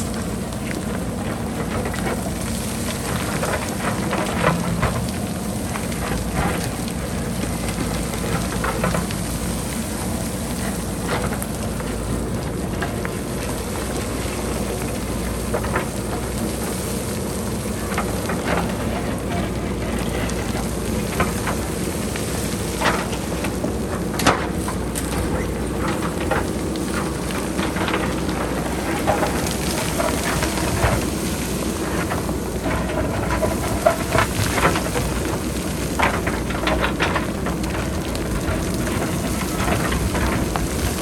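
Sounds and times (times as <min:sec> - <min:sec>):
diesel engine running: 0:00.0 - 0:41.0
rocks clattering down hillside: 0:00.0 - 0:41.0.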